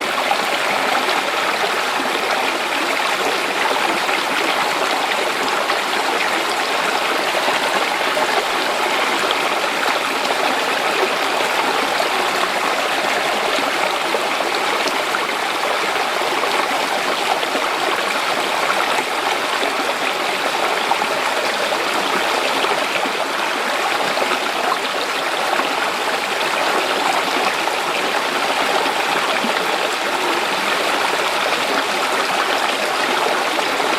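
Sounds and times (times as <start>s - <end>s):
stream splashing over rocks: 0.0s - 33.9s.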